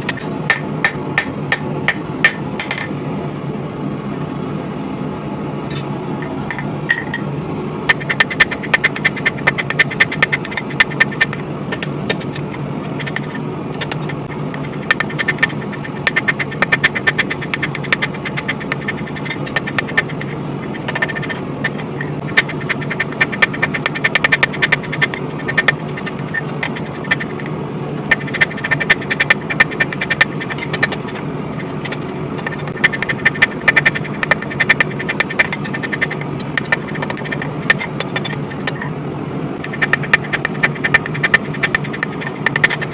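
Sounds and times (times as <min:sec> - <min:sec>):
propane forge roaring: 0:00.0 - 0:42.9.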